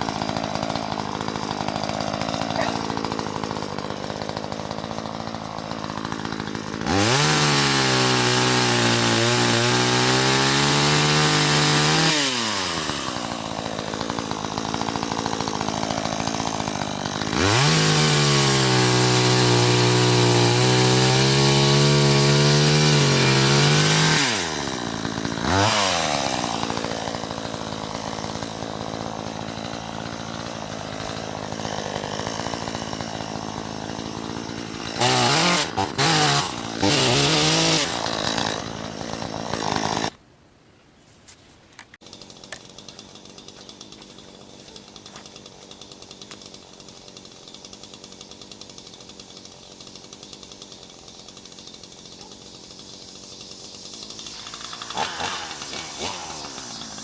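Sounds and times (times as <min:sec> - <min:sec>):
chainsaw cutting wood: 0:00.0 - 0:40.2, 0:41.8 - 0:57.0
chainsaw idling and revving: 0:00.0 - 0:40.2, 0:41.9 - 0:57.0.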